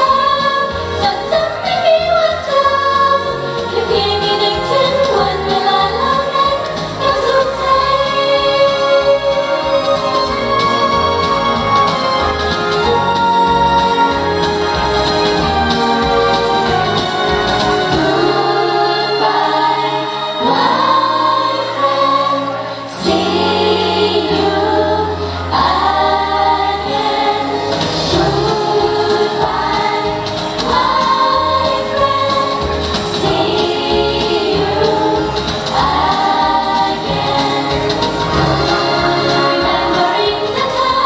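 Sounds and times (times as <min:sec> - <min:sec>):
women singing pop song: 0:00.0 - 0:10.9, 0:17.9 - 0:41.0
backing music with bass: 0:00.0 - 0:41.0.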